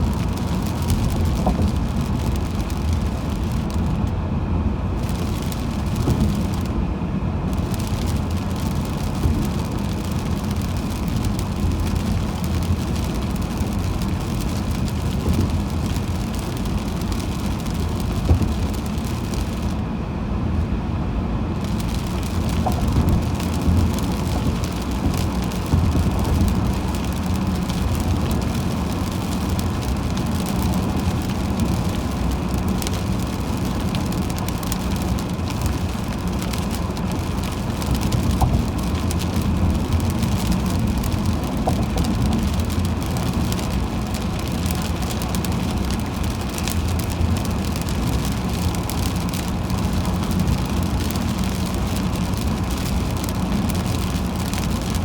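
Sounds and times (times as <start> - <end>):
raindrops hitting car: 0.0 - 55.0
road and tyre rumble: 0.0 - 55.0.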